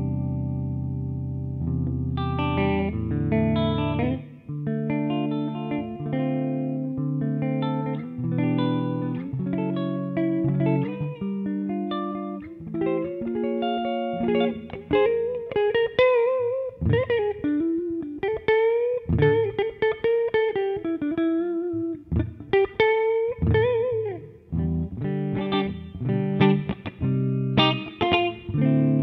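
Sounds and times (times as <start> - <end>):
electric guitar playing: 0.0 - 29.0.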